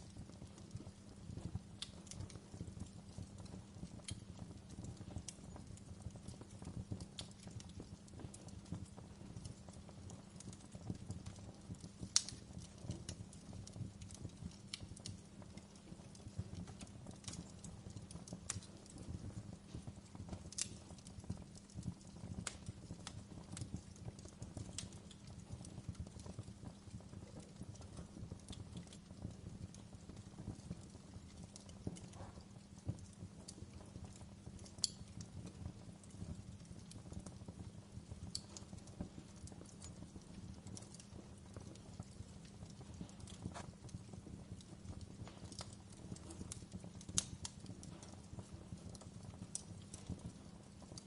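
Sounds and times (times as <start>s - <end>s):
fire popping: 0.0s - 51.0s
wood fire crackling: 0.0s - 51.0s.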